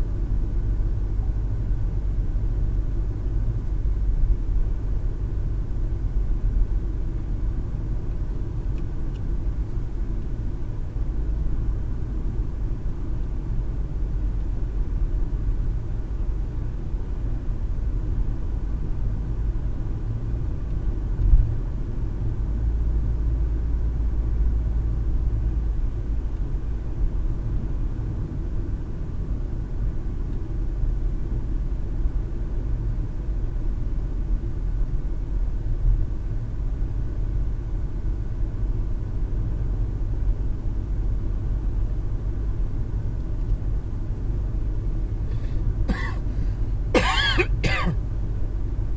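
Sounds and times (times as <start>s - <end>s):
car tyres and engine rumble: 0.0s - 48.9s.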